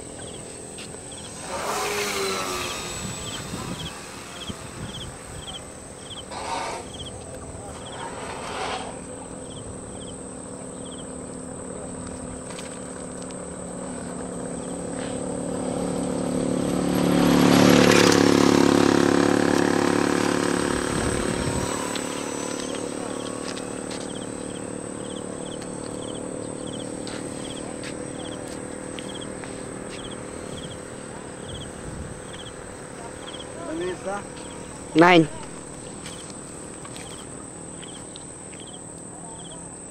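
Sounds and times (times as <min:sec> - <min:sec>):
insects chirping: 0:00.0 - 0:39.9
model airplane engine droning: 0:00.0 - 0:39.9.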